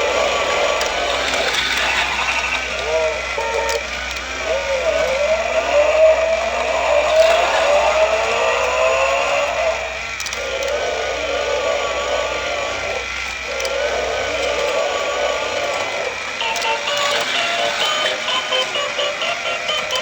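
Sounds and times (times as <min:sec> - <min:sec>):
toy race car engine effect: 0:00.0 - 0:20.0.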